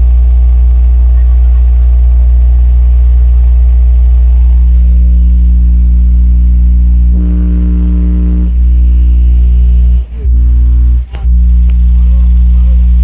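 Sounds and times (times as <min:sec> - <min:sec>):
loud low bass drone: 0:00.0 - 0:13.0.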